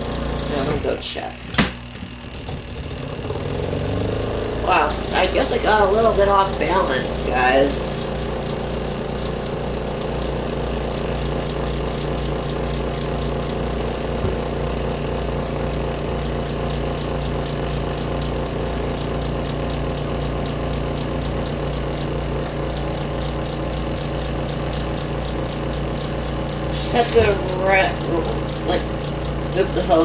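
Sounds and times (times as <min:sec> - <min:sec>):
pulsing rumble: 0:00.0 - 0:30.0
spin dryer motor hum: 0:00.0 - 0:30.0.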